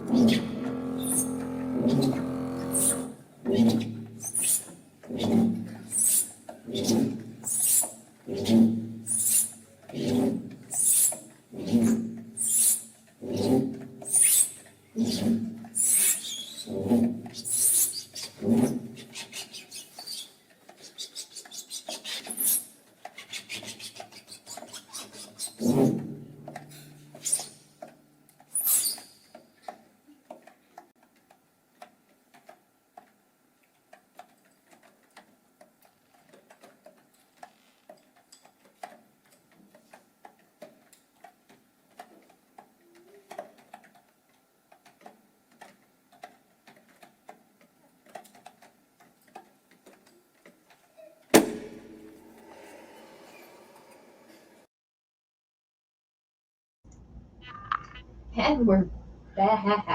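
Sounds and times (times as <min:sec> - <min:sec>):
rapid irregular clicks: 0:00.1 - 0:51.0.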